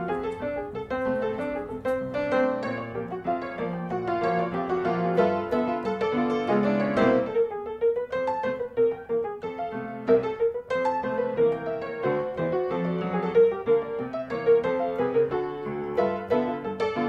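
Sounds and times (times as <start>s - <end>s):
piano melody with chords: 0.0s - 17.0s.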